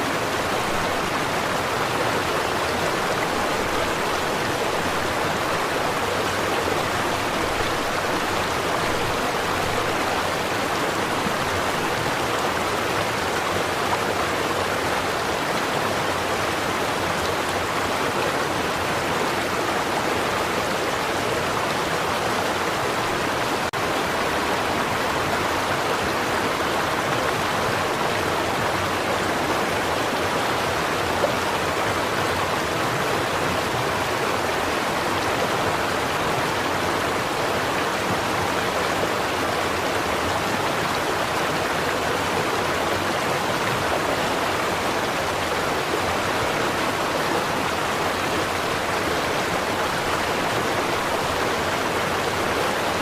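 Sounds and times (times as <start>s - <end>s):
stream rushing water: 0.0s - 53.0s.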